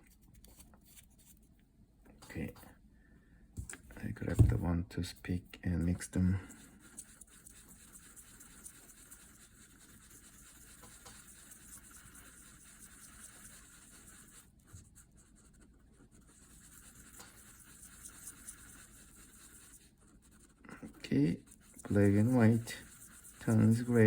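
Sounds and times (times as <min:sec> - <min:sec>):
faint scraping and stirring: 0:03.6 - 0:24.0.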